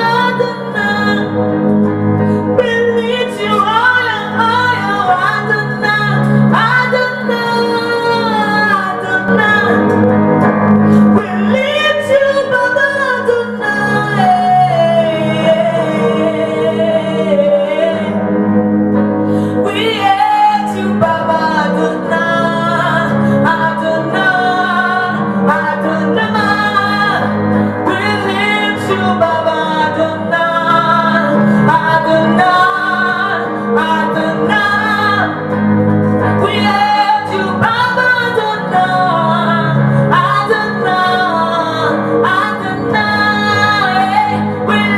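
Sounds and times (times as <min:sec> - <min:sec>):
woman singing: 0:00.0 - 0:18.4, 0:19.4 - 0:44.9
instrumental accompaniment: 0:00.0 - 0:44.9.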